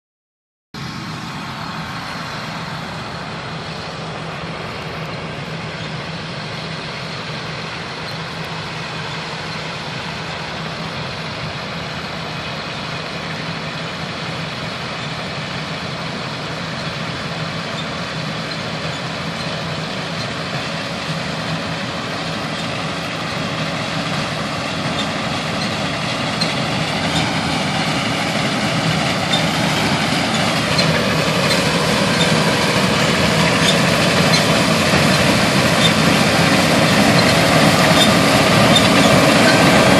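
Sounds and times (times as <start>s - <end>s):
heavy machinery engine running: 0.8s - 39.9s.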